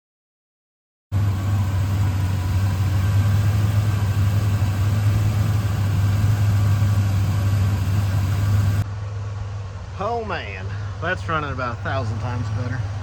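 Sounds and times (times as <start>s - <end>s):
truck engine idling: 1.1s - 13.0s.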